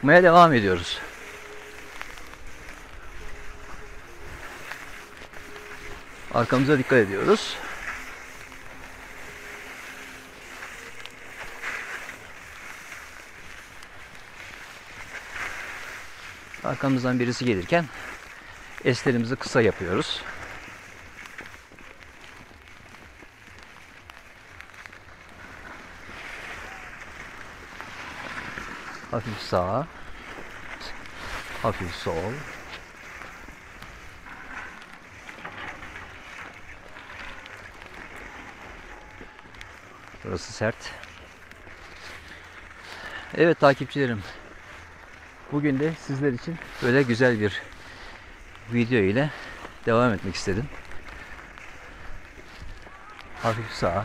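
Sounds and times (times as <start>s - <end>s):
skis scraping on icy snow: 0.0s - 54.0s.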